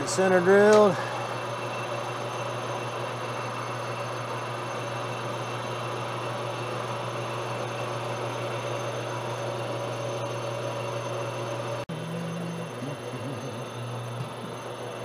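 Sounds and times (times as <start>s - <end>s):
drill cutting spinning steel: 0.0s - 15.0s
lathe humming: 0.0s - 15.0s.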